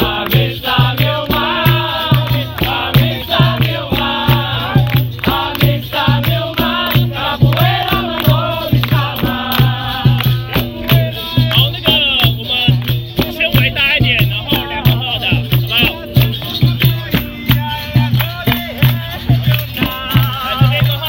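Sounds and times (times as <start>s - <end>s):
group of voices singing: 0.0s - 21.0s
rattling percussion: 0.0s - 21.0s
steady drum beat: 0.0s - 21.0s.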